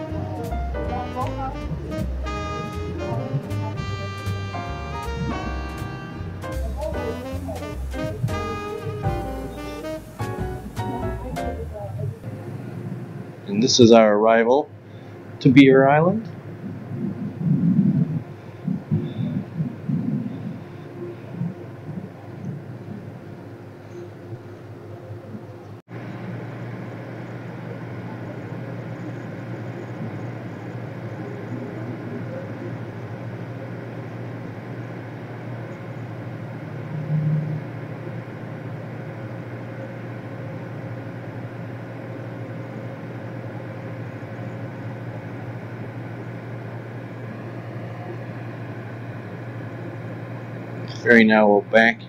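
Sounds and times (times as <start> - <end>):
ferry engines droning: 0.0 - 52.0.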